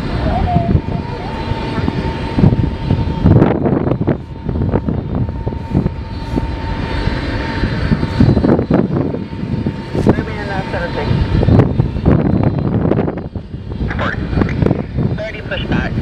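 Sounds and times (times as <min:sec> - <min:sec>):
aircraft engines whining and rumbling: 0:00.0 - 0:16.0
wind buffeting microphone: 0:00.0 - 0:16.0.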